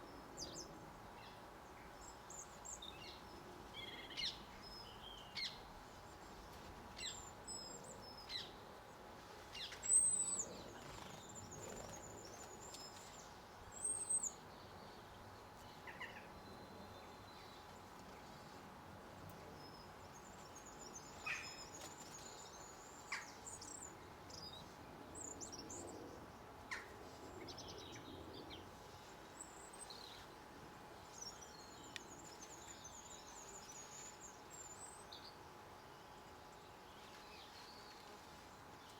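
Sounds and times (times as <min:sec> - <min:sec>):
small birds chirping: 0:00.0 - 0:18.7, 0:19.3 - 0:38.9.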